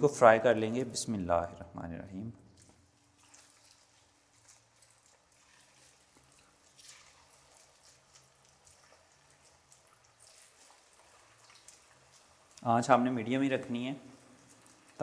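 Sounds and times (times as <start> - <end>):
batter deep-frying in oil: 2.3 - 15.0.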